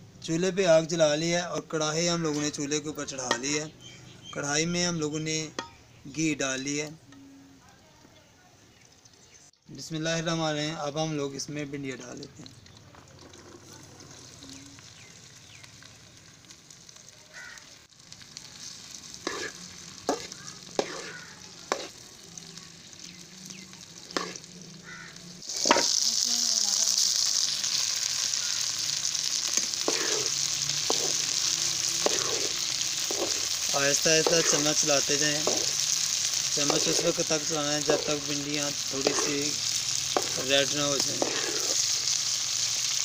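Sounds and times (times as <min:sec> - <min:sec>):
okra sizzling in hot oil: 0:00.0 - 0:07.0, 0:08.7 - 0:43.0.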